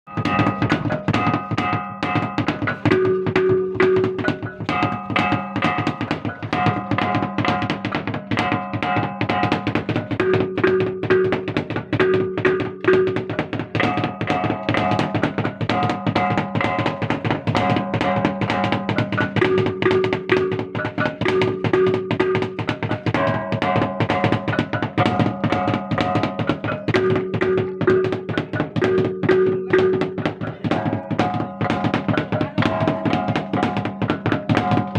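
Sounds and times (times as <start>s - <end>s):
drums beaten fast rhythm: 0.1s - 34.9s
gongs ringing pitched tones: 0.1s - 34.9s.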